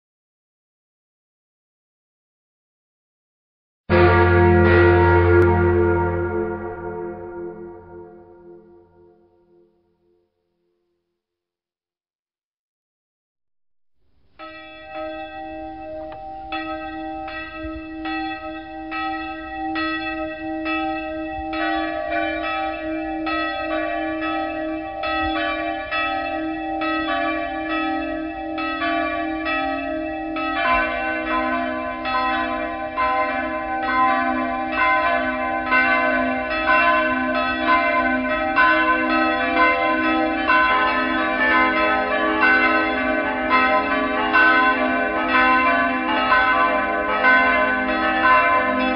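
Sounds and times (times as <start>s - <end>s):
church bells pealing: 3.9s - 9.2s, 14.4s - 48.9s.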